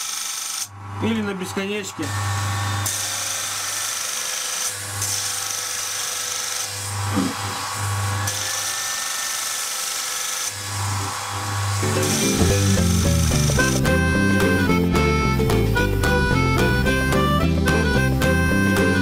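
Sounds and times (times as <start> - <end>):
bench grinder motor hum: 0.0 - 19.0
high abrasive grinding whine: 0.0 - 19.0.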